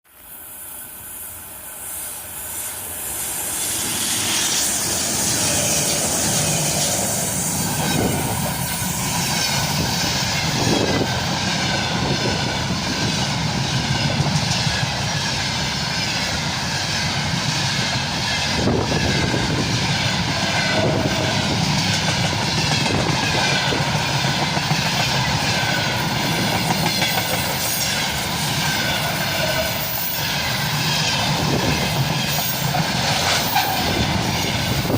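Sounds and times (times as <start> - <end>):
freight train passing: 0.1 - 34.9.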